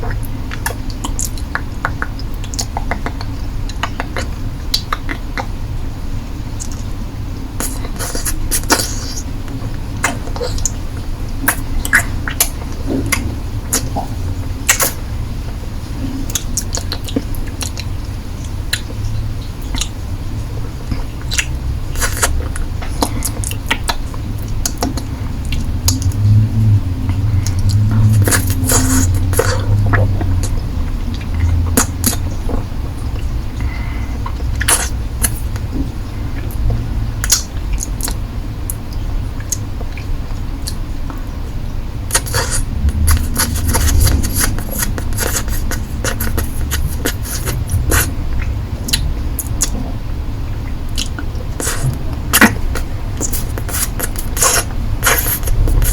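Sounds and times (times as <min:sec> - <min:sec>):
low steady hum: 0:00.0 - 0:55.9
wet mouth clicks and smacks: 0:00.2 - 0:05.5, 0:06.6 - 0:06.9, 0:11.4 - 0:15.0, 0:16.3 - 0:19.1, 0:19.7 - 0:20.0, 0:20.9 - 0:26.4, 0:27.0 - 0:41.2, 0:42.1 - 0:49.8, 0:50.6 - 0:55.9.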